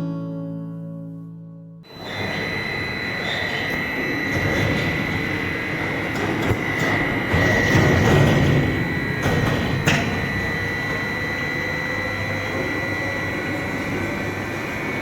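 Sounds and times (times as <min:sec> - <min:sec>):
high machine whine: 0:01.8 - 0:15.0
industrial shredder grinding: 0:01.9 - 0:15.0.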